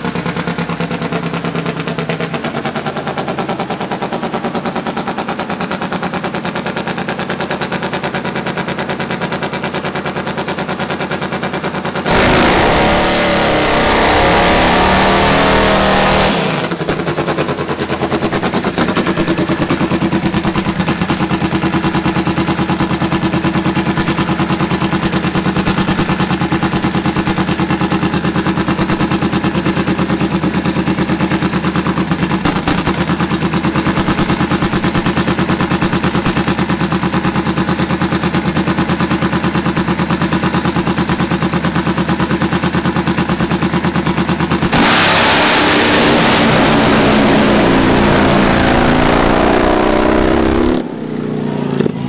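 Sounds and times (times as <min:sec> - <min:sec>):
drag bike engine idling: 0:00.0 - 0:52.0.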